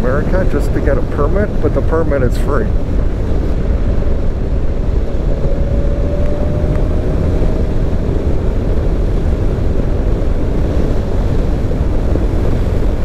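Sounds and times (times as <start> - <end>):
vehicle rumble: 0.0 - 13.0
wind noise: 0.0 - 13.0.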